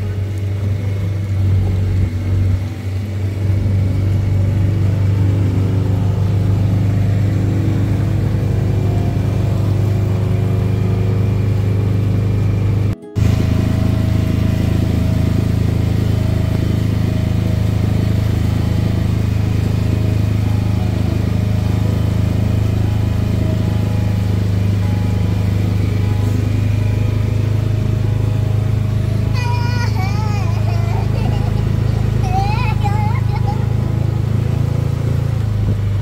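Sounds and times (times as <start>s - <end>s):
motorboat engine droning: 0.0s - 36.0s.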